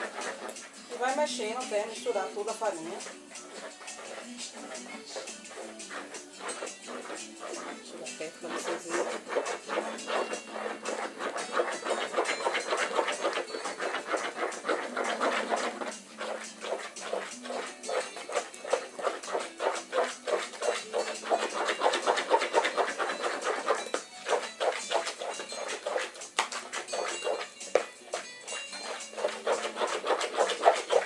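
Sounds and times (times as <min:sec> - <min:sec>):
stirring dough in a bowl: 0:00.0 - 0:31.0.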